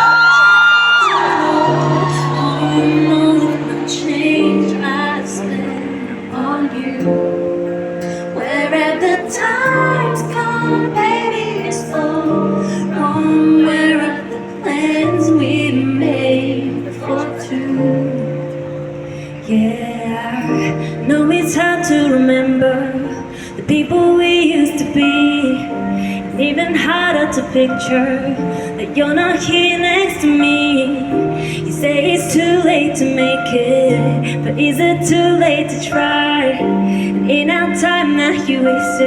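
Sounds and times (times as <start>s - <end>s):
held chords: 0.0s - 39.0s
woman singing wordless lines: 0.0s - 39.0s.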